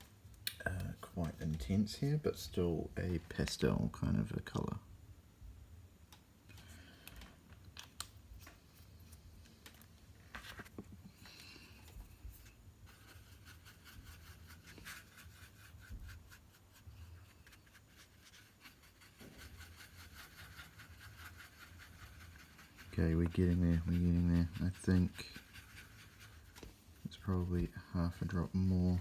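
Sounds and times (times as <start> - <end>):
brush stirring paint: 0.6 - 4.6, 6.7 - 29.0.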